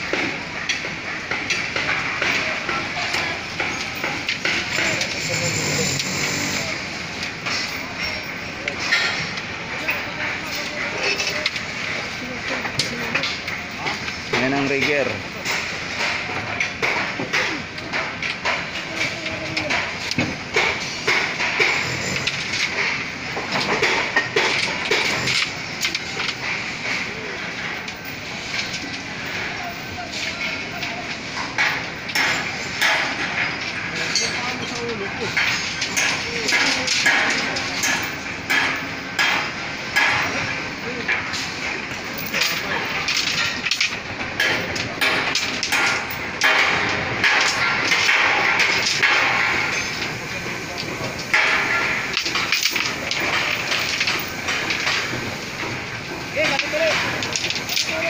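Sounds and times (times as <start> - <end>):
steady background hiss: 0.0 - 58.0
metallic clanks and knocks: 0.1 - 58.0.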